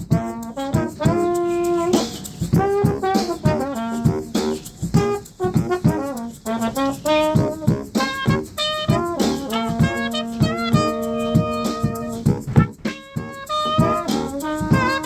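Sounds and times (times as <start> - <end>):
brass band playing funk: 0.0 - 15.0
drum hits: 0.1 - 15.0.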